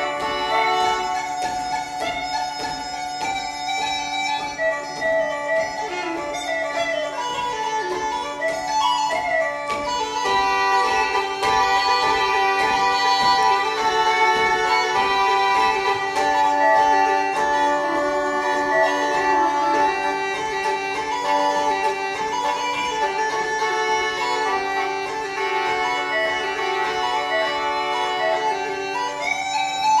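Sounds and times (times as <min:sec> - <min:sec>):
bagpipe tune with drone: 0:00.0 - 0:30.0.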